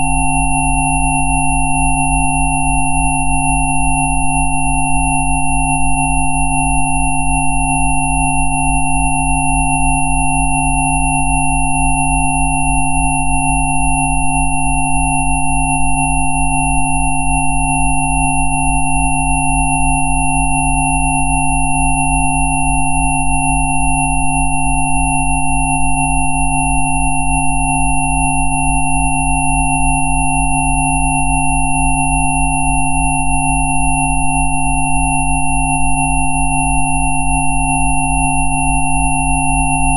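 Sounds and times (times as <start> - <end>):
electronic sine tones: 0.0 - 39.9.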